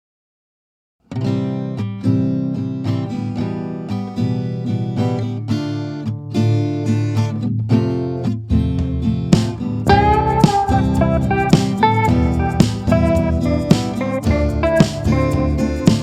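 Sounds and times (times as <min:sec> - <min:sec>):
acoustic guitar music: 0:01.0 - 0:16.0.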